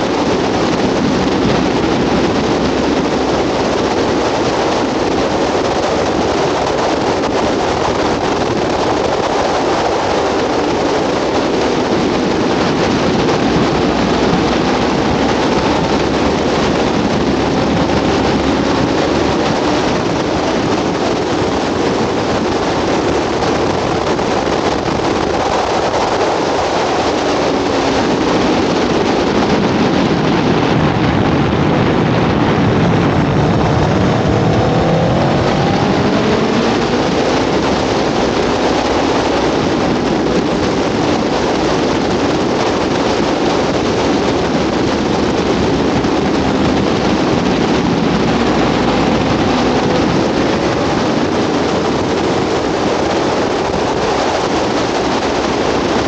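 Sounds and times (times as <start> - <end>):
motorcycle engine revving: 0.0 - 56.0
wind rushing over microphone: 0.0 - 56.0.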